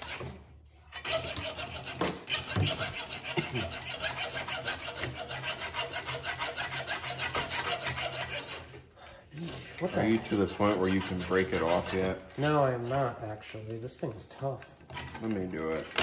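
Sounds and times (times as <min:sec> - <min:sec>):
hacksaw cutting metal: 0:00.0 - 0:13.7, 0:14.9 - 0:16.0.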